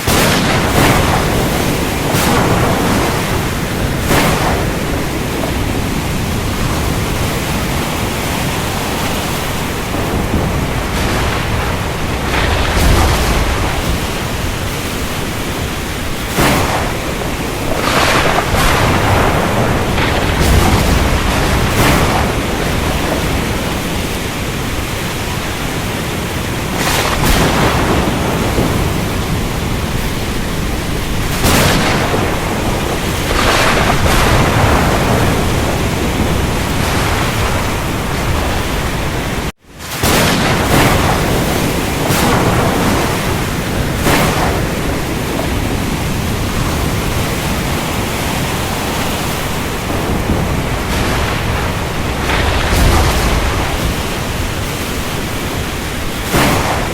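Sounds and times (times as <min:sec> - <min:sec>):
rain: 0:00.0 - 0:56.9
waves breaking: 0:00.0 - 0:56.9.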